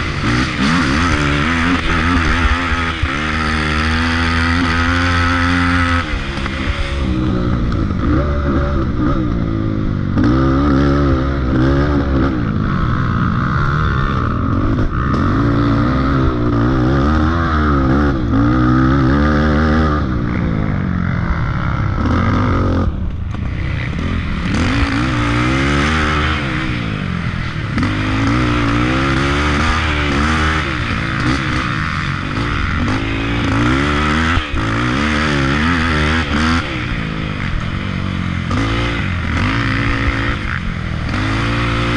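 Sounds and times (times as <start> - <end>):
quad bike engine revving: 0.0 - 41.9.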